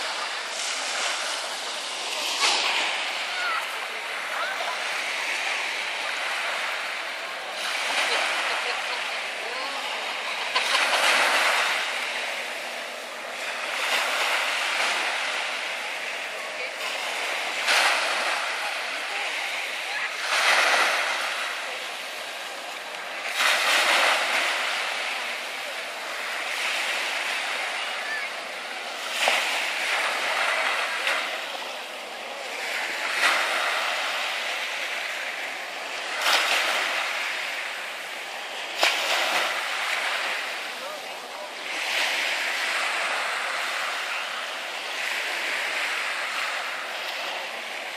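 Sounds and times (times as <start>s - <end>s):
small sea waves lapping: 0.0s - 47.9s.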